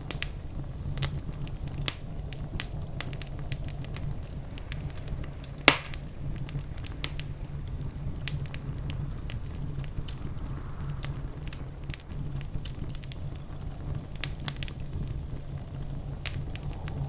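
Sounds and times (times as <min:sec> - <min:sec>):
flames rumbling: 0:00.0 - 0:17.0
wood fire pops and snaps: 0:00.0 - 0:17.0.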